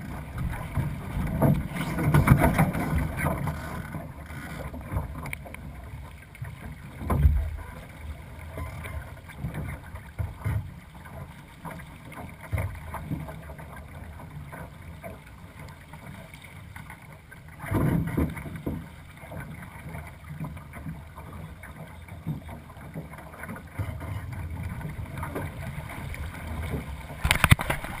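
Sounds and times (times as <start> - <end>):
water rushing along hull: 0.0 - 28.0.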